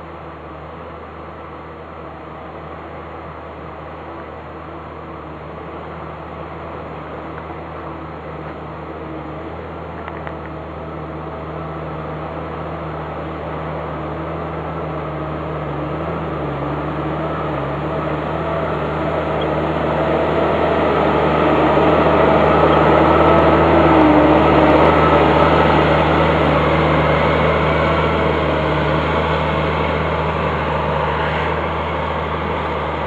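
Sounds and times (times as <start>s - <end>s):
snowcat diesel engine running: 0.0s - 33.0s.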